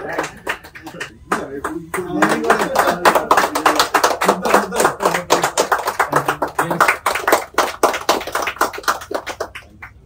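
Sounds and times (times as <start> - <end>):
group clapping: 0.0 - 10.0.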